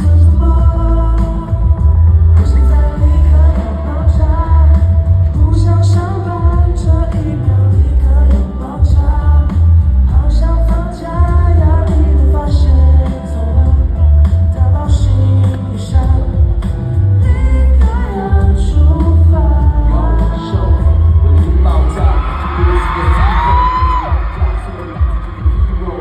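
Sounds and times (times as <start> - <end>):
person singing: 0.0 - 26.0
pop backing track with heavy bass: 0.0 - 26.0.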